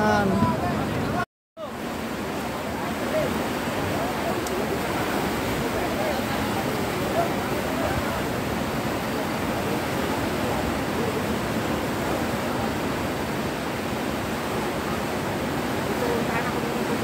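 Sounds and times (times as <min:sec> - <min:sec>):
fast river rushing: 0:00.0 - 0:17.0.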